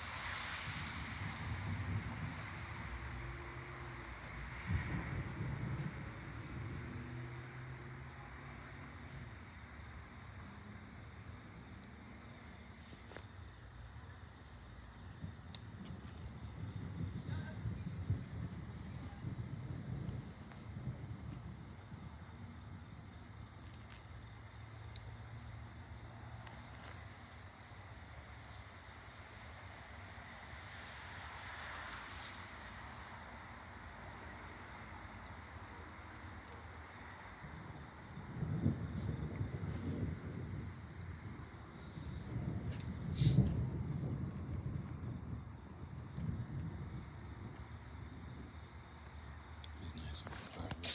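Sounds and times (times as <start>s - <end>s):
night insects trilling: 0.0s - 50.9s.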